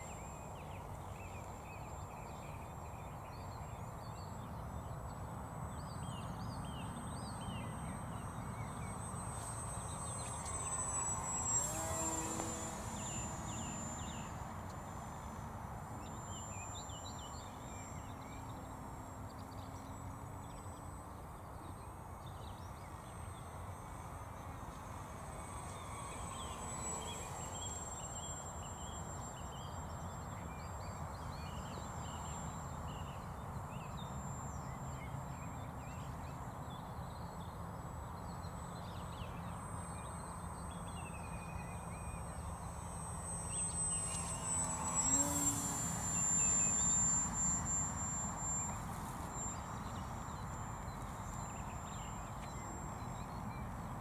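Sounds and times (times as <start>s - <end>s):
model plane motor whine: 0.0s - 54.0s.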